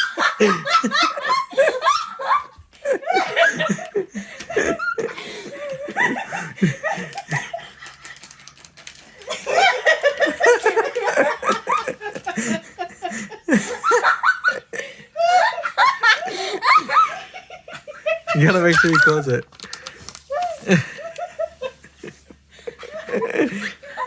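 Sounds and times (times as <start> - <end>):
people laughing: 0.0 - 8.4, 9.1 - 19.4, 20.3 - 24.0.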